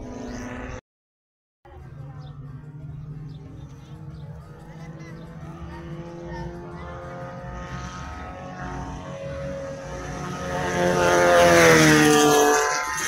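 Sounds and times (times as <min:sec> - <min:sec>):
race car engine passing by: 0:00.0 - 0:00.8, 0:01.7 - 0:13.0.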